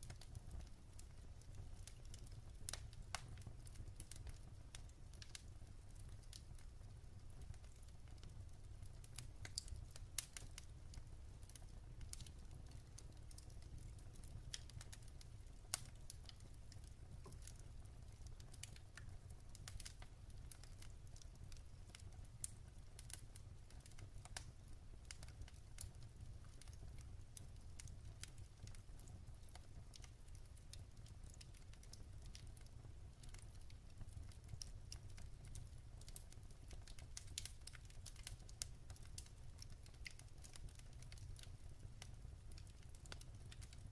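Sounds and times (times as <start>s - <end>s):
firewood crackling and popping: 0.0s - 43.9s
low steady fire rumble: 0.0s - 43.9s.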